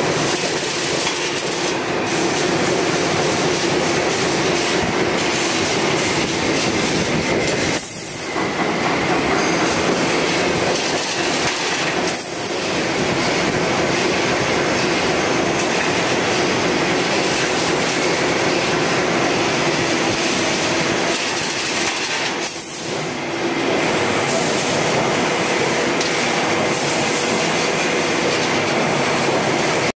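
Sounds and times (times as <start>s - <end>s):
wire bending machine running: 0.0s - 29.9s.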